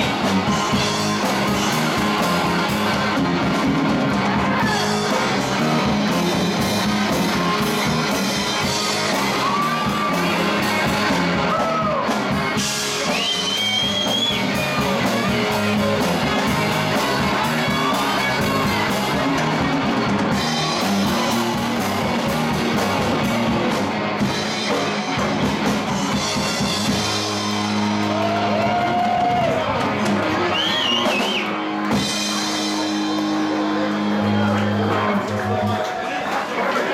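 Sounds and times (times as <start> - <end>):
live rock band playing: 0.0 - 36.5.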